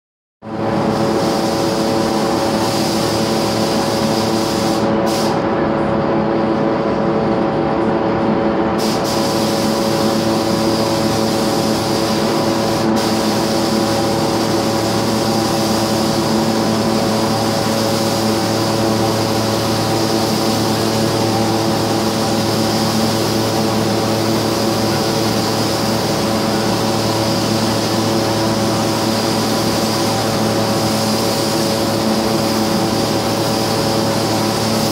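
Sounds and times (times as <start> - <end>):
paint spray gun hissing: 0.9 - 5.4, 8.8 - 34.9.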